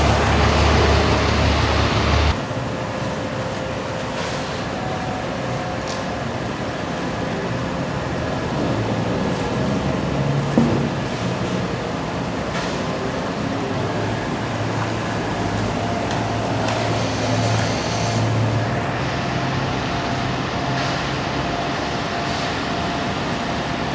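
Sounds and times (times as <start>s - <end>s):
road traffic passing: 0.0s - 23.9s.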